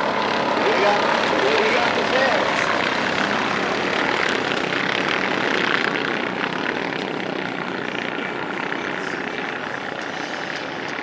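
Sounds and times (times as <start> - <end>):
off-road truck engines droning: 0.0 - 11.0.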